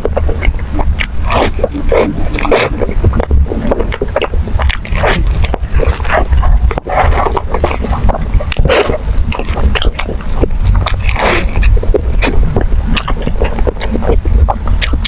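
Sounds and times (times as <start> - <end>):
chewing and biting food: 0.0 - 15.0
low rumble: 0.0 - 15.0.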